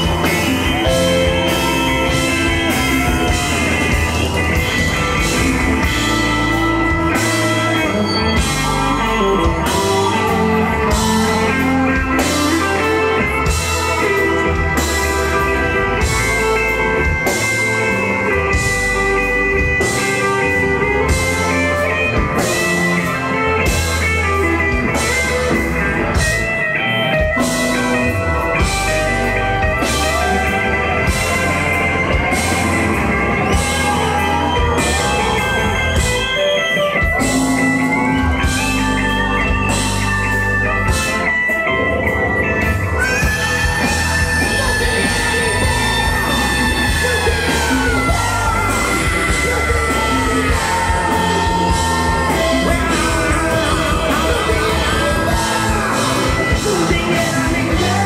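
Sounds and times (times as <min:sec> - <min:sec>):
electric guitar: 0:00.0 - 0:58.0
live band playing: 0:00.0 - 0:58.0.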